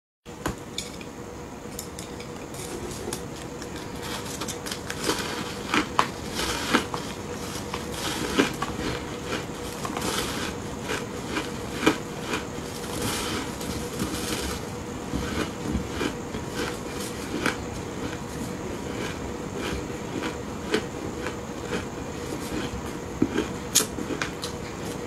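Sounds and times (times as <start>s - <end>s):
ice crunching being chewed: 2.6s - 25.0s.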